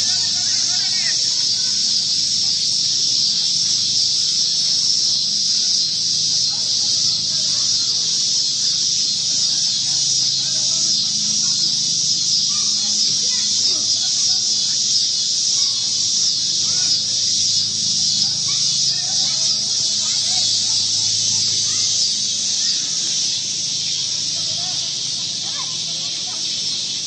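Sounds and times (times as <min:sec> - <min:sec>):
high-pitched hiss: 0:00.0 - 0:27.0.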